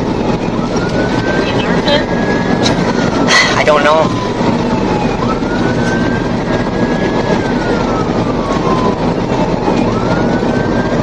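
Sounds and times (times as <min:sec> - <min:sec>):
police siren wailing: 0:00.0 - 0:11.0
vehicle engine and road noise: 0:00.0 - 0:11.0.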